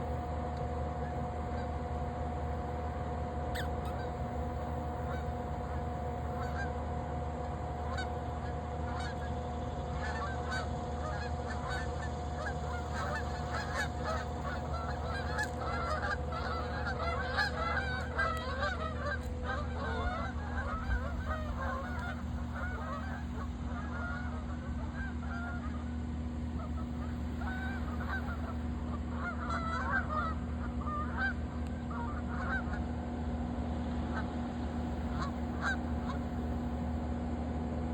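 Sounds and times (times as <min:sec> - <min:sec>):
geese honking: 0:00.0 - 0:37.0.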